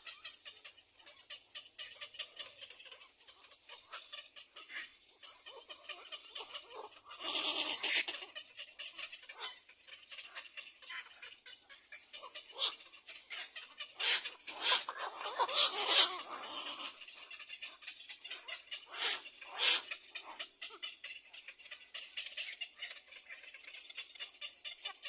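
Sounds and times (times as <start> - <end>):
nestlings rasping begging calls: 0.0 - 25.0.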